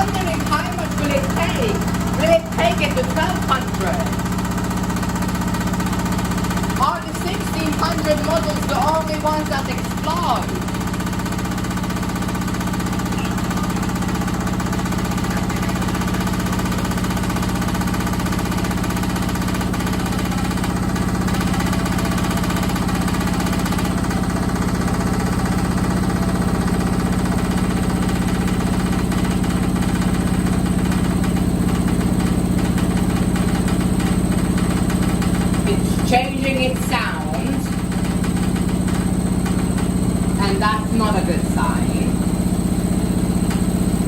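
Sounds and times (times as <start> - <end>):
washing machine spinning: 0.0 - 44.0.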